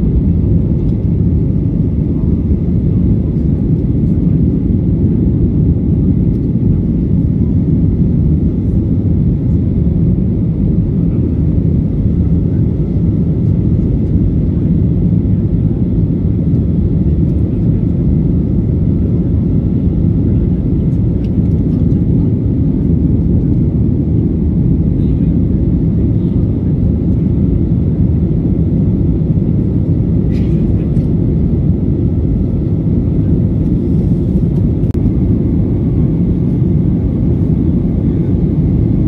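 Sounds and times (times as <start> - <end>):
airliner engines and rushing air: 0.0 - 39.0.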